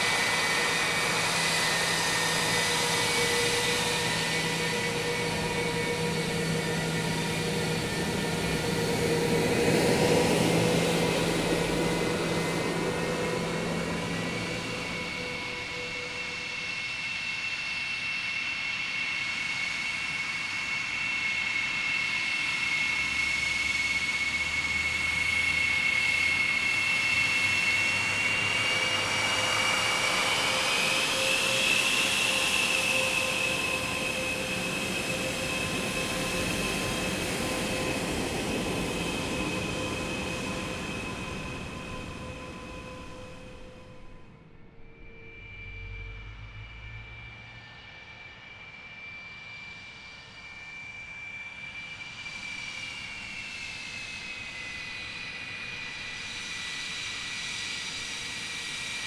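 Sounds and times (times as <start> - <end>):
jet engine whine and rush: 0.0 - 59.0.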